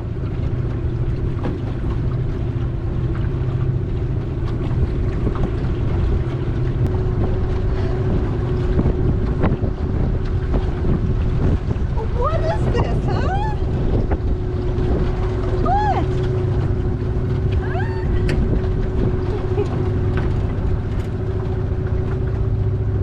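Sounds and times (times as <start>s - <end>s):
boat motor running: 0.0s - 23.0s
wind buffeting microphone: 0.0s - 23.0s.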